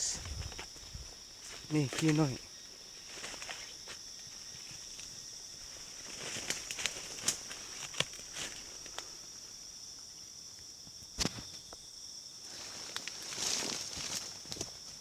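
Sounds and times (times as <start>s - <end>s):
high-pitched insect drone: 0.0s - 14.5s.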